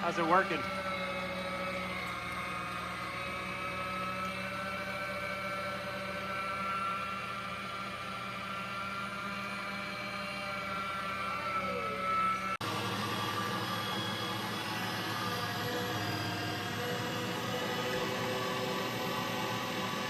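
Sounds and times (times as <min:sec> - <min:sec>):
meat grinder motor whining: 0:00.0 - 0:20.0.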